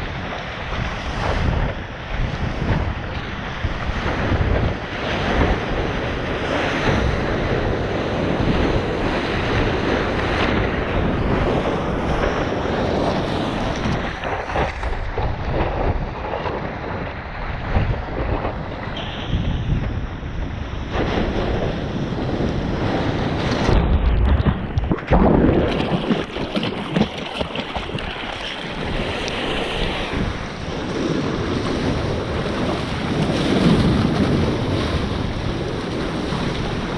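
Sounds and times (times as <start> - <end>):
rushing ocean water: 0.0 - 36.9
wind buffeting microphone: 0.0 - 36.9.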